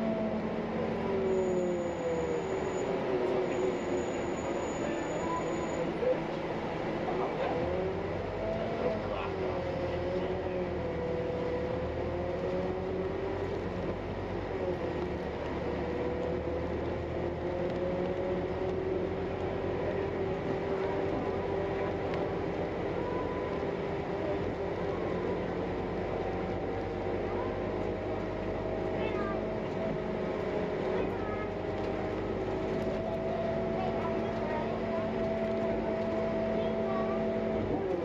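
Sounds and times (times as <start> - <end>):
bus engine and road noise: 0.0 - 38.0.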